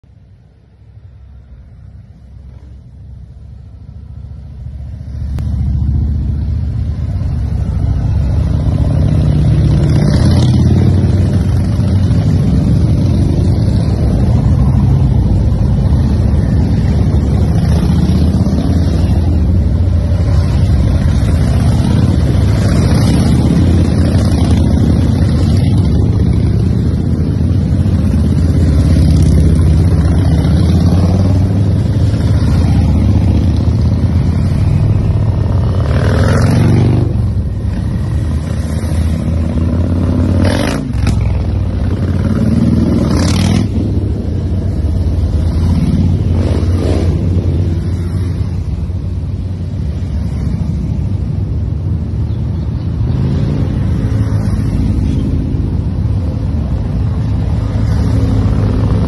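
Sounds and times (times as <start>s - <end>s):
motorcycles riding past: 0.9s - 59.0s.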